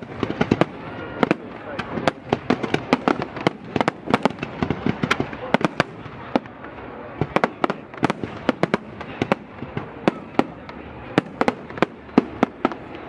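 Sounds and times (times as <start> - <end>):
firework bangs: 0.0 - 13.0
low background noise: 0.0 - 13.0.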